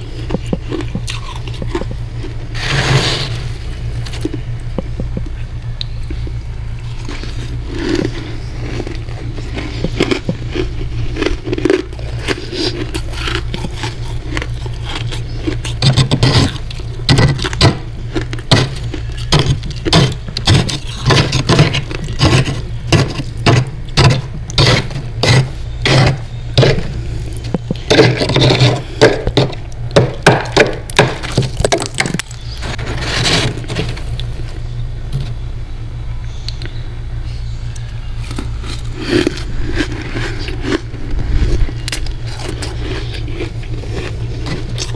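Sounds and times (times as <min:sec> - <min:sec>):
frost crunching: 0:00.0 - 0:35.4, 0:37.8 - 0:44.9
steady low hum: 0:00.0 - 0:44.9.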